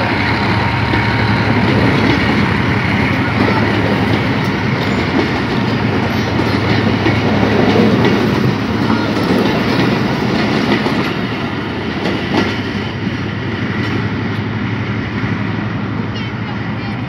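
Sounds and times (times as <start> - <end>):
train wheels clattering over joints: 0.1 - 14.5.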